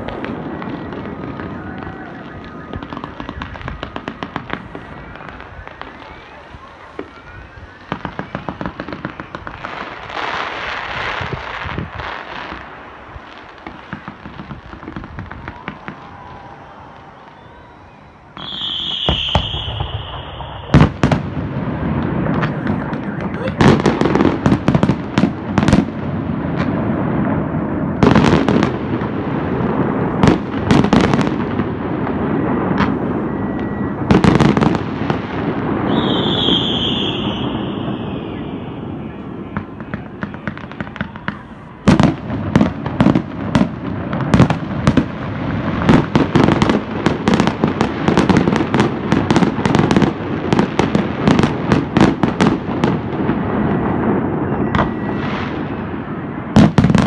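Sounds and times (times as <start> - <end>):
fireworks bangs: 0.0 - 57.0
fireworks crackling: 0.0 - 57.0
high whistling firework: 0.0 - 57.0.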